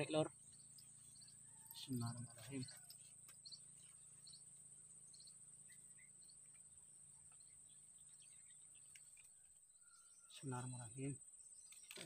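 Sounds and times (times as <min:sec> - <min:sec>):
faint bird chirps: 0:00.0 - 0:12.0
high-pitched insect trill: 0:00.0 - 0:12.0.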